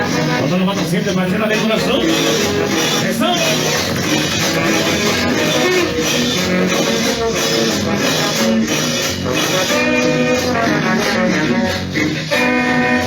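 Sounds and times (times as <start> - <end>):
loud latin dance music: 0.0 - 13.0.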